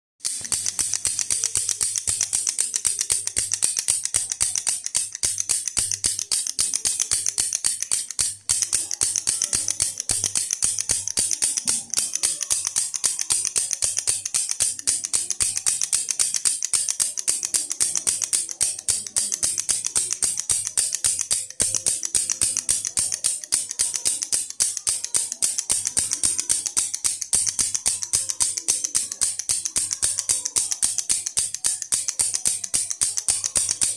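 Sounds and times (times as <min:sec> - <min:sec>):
plastic baby rattle shaken: 0:00.2 - 0:33.9.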